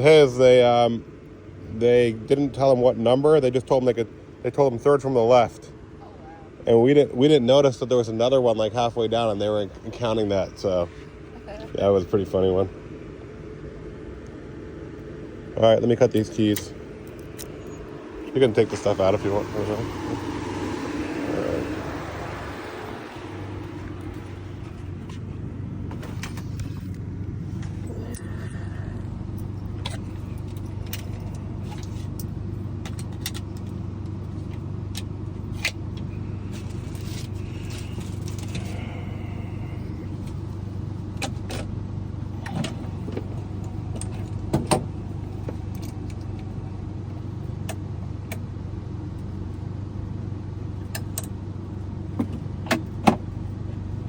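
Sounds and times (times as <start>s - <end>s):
low motor hum: 0.0s - 54.0s.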